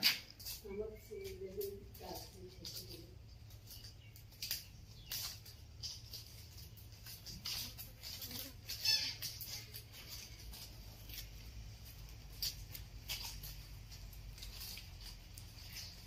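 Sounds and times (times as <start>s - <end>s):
dry palm fronds rustling: 0.0s - 16.0s.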